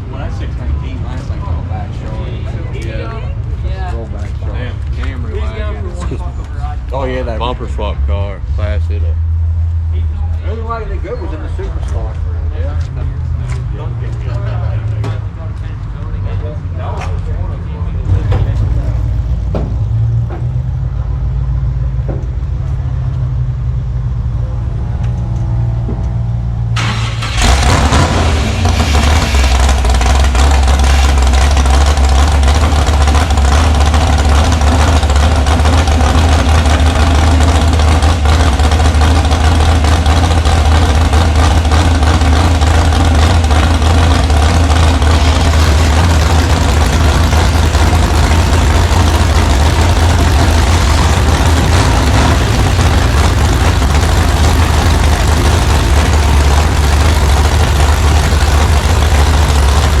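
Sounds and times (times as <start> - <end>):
car engine idling: 0.0 - 60.0.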